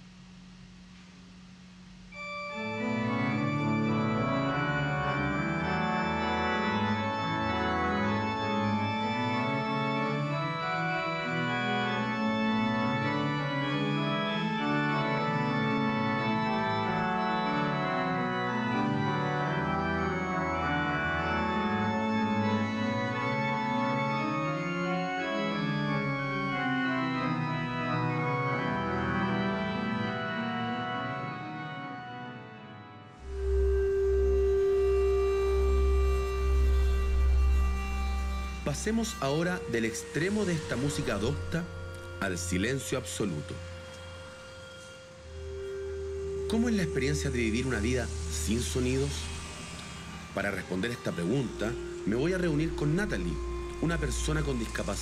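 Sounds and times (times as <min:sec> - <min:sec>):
pipe organ playing chords: 0:02.2 - 0:55.0.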